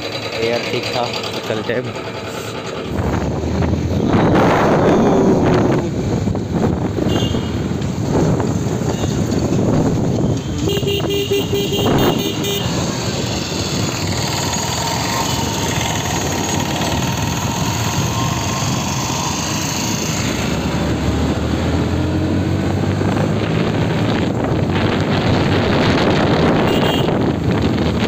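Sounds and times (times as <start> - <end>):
motorcycle engine running: 0.0 - 21.4, 23.0 - 28.0
wind on microphone: 2.9 - 28.0.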